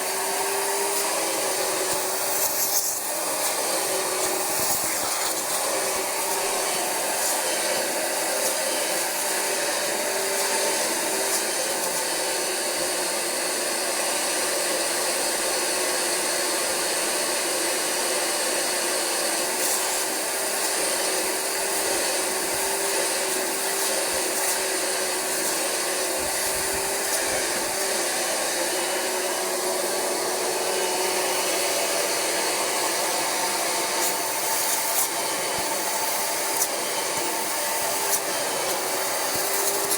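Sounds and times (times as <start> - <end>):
carpet cleaner vacuum running: 0.0 - 39.9.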